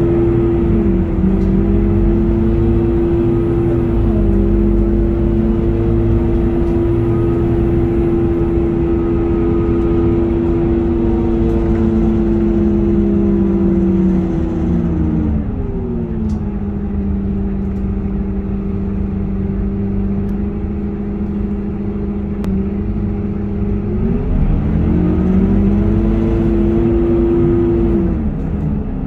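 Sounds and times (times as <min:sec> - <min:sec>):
bus diesel engine: 0:00.0 - 0:29.0
low road rumble: 0:00.0 - 0:29.0.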